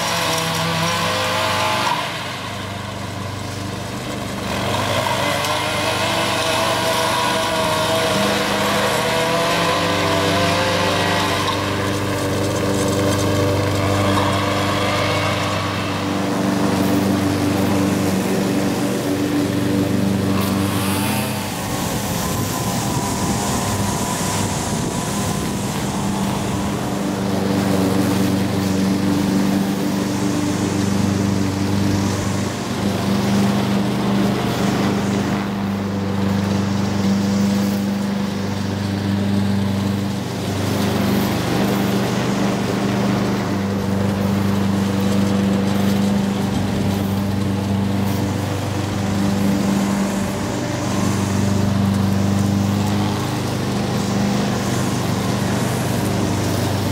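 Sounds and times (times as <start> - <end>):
lawn mower running: 0.0 - 56.9.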